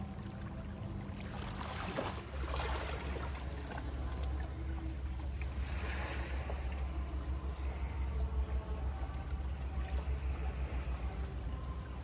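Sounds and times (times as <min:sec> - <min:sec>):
boat engine rumbling: 0:00.0 - 0:12.0
high-pitched insect drone: 0:00.0 - 0:12.0.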